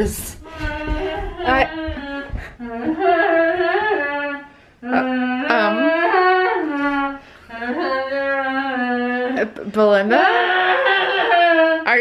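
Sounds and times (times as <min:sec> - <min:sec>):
person singing unaccompanied: 0:00.0 - 0:11.9.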